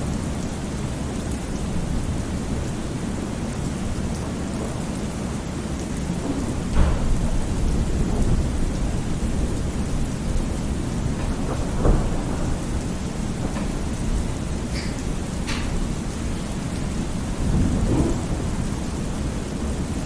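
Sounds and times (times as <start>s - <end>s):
low rolling thunder: 0.0s - 20.0s
steady rain: 0.0s - 20.0s.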